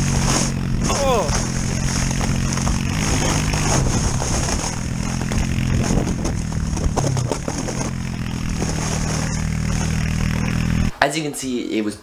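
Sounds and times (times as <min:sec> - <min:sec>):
atv engine running: 0:00.0 - 0:10.9
plastic sled scraping over snow: 0:00.0 - 0:10.9.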